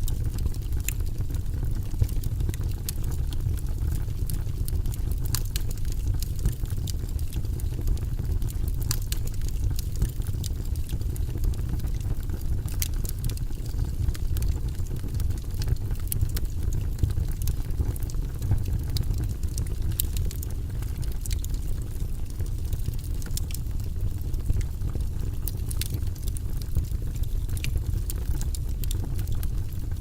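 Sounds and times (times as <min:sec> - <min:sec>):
fire crackling and popping: 0:00.0 - 0:30.0
fire low rumble: 0:00.0 - 0:30.0.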